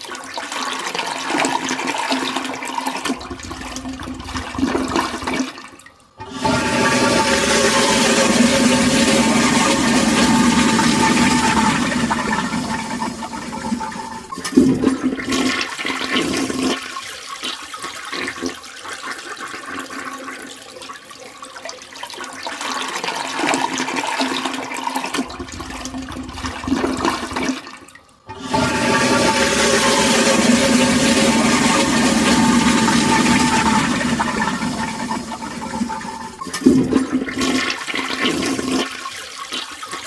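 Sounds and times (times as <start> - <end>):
toilet flushing: 0.0 - 40.0
water gurgling and trickling: 0.0 - 40.0.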